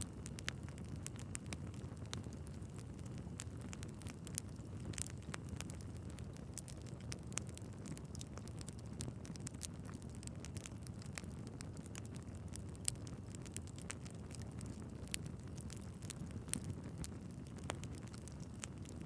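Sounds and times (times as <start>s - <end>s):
log fire crackling: 0.0s - 19.0s.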